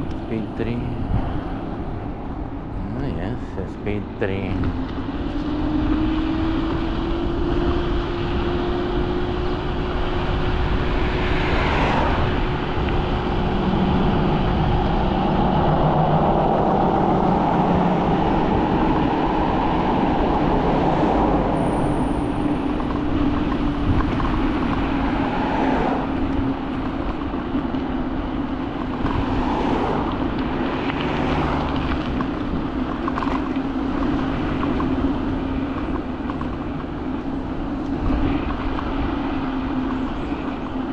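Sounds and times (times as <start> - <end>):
wind and road noise: 0.0 - 40.9
electric scooter motor whine: 4.7 - 40.9.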